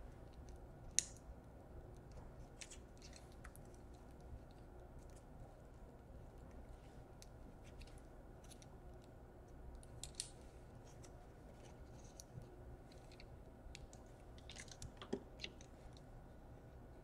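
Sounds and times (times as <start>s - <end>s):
small clicks and scrapes: 1.9s - 17.0s.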